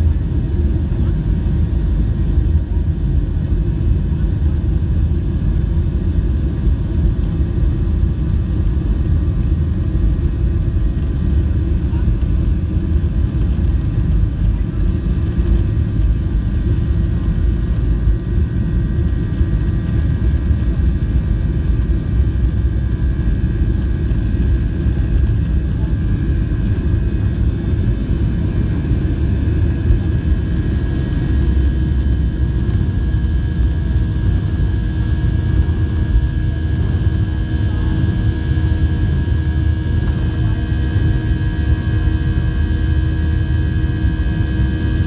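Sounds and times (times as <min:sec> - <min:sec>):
high fan whine: 0:00.0 - 0:45.0
jet engine low rumble: 0:00.0 - 0:45.0.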